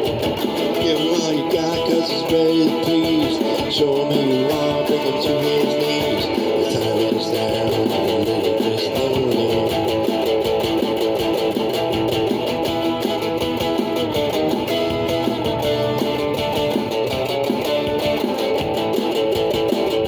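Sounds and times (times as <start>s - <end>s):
electric guitar picked notes: 0.0s - 20.0s.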